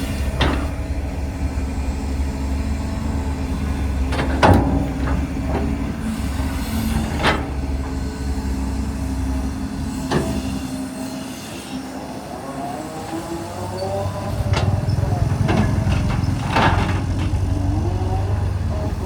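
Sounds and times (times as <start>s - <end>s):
diesel machinery engine drone: 0.0s - 19.0s.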